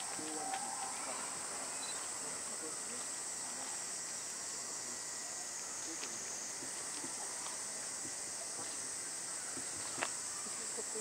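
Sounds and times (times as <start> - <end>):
cicada chorus droning: 0.0 - 11.0.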